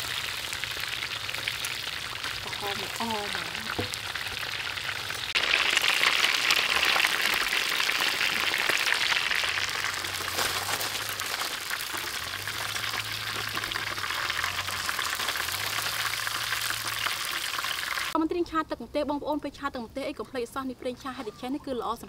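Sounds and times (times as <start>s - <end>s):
chicken deep-frying in oil: 0.0s - 18.2s.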